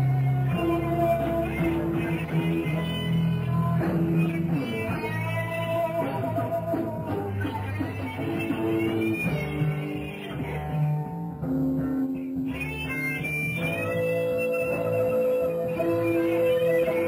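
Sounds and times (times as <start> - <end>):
bass guitar: 0.0 - 17.0
electric guitar with bent notes: 0.0 - 17.0.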